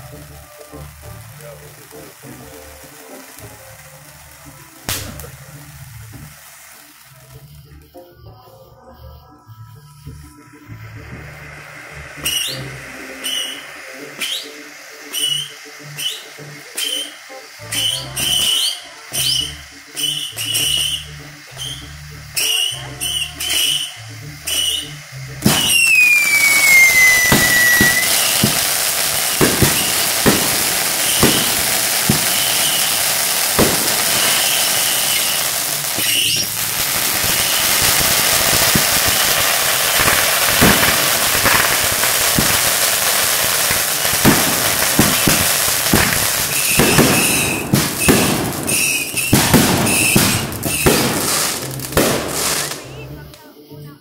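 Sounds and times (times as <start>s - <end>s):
fireworks bangs: 0.0s - 7.8s, 9.8s - 53.3s
falling firework whistle: 0.0s - 53.3s
fireworks crackling hiss: 0.0s - 54.0s.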